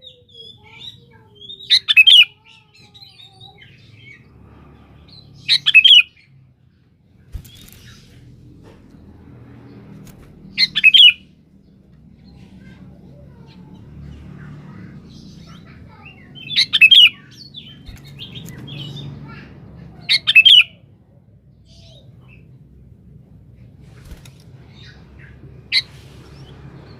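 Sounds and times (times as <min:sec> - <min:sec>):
low background hum: 0:00.0 - 0:26.9.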